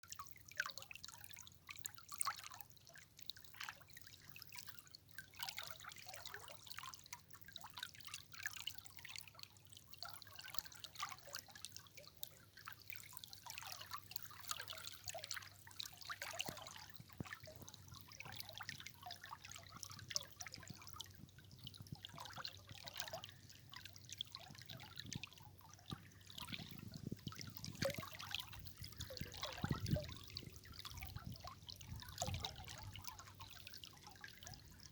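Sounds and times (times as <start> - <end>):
river water trickling: 0.0 - 34.9
small water splashes: 0.0 - 34.9.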